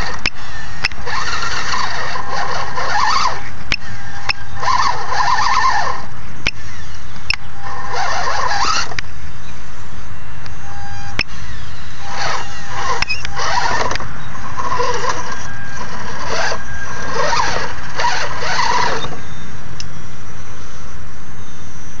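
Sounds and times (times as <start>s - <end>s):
electric winch whining: 0.0s - 20.2s.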